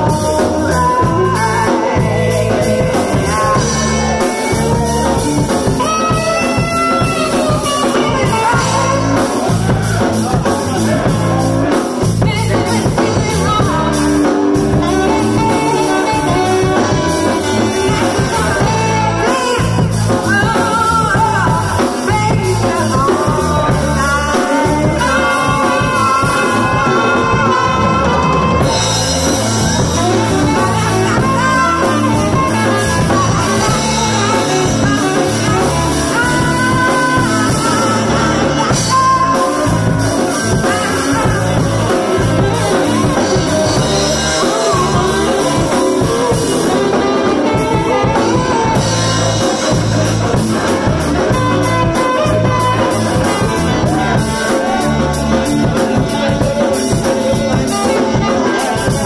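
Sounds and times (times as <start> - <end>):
alto saxophone: 0.0 - 59.0
drum kit: 0.0 - 59.0
electric guitar: 0.0 - 59.0
woman singing: 0.0 - 59.0.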